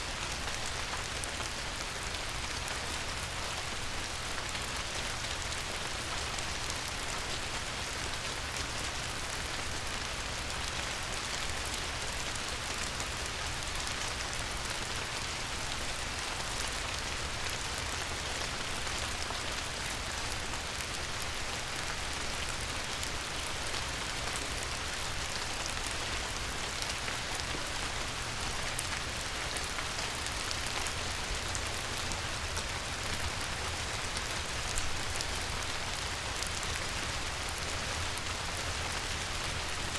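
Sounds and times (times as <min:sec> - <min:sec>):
light rain on water: 0:00.0 - 0:39.9.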